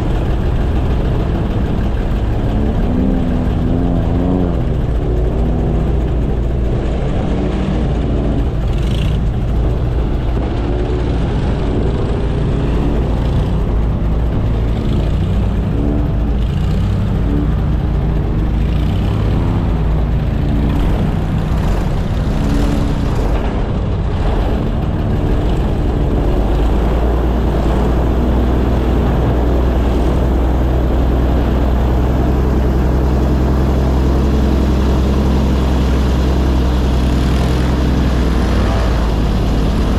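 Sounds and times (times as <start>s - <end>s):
airboat engine and propeller drone: 0.0s - 39.9s.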